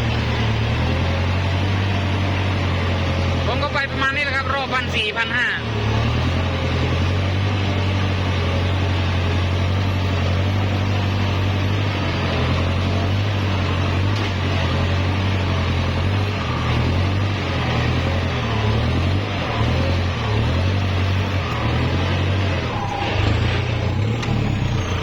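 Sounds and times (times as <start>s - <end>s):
tractor diesel engine humming: 0.0s - 25.0s.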